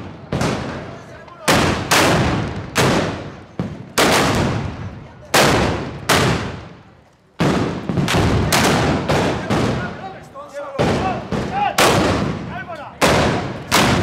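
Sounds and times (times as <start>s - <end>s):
loud gunshots with echo: 0.0s - 6.8s, 7.4s - 10.1s, 10.7s - 14.0s.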